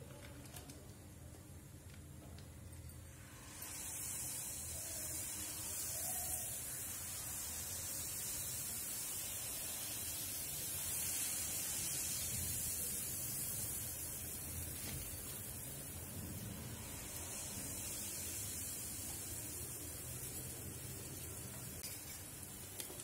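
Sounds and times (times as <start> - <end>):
batter sizzling in hot oil: 3.1 - 23.0.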